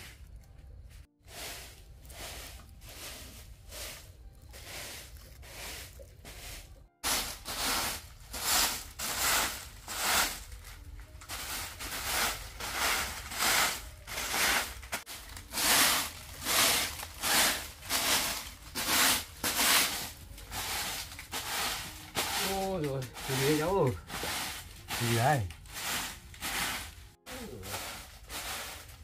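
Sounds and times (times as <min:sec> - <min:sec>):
broom sweeping earth floor: 0:00.0 - 0:29.0.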